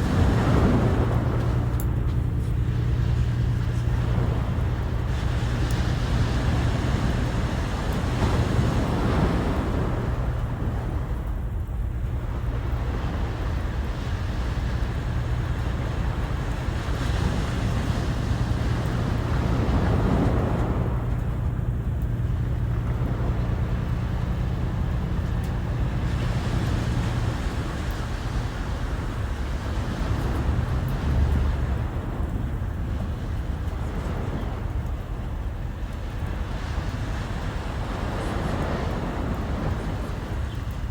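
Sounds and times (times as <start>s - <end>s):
waves breaking on shore: 0.0s - 40.9s
wind on microphone: 0.0s - 40.9s.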